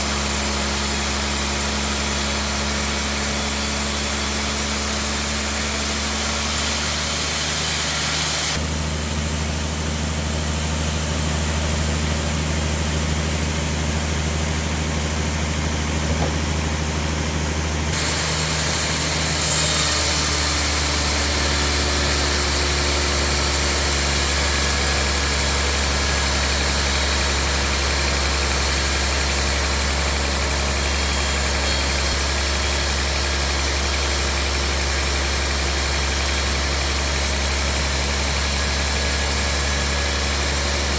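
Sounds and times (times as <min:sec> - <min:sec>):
bandsaw machinery droning: 0:00.0 - 0:40.9.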